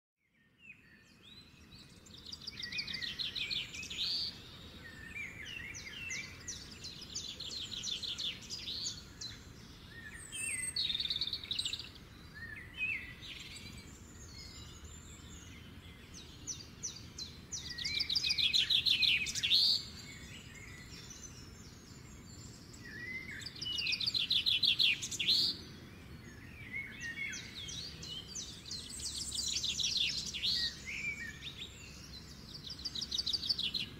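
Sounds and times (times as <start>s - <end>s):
songbird trilling and chirping: 0.5s - 33.9s.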